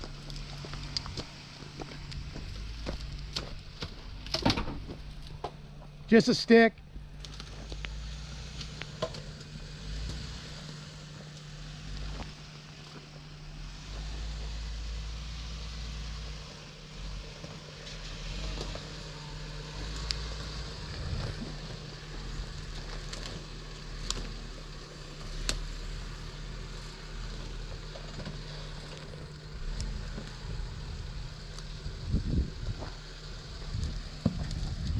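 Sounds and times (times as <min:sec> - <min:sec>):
off-road vehicle engine running: 0:00.0 - 0:34.9.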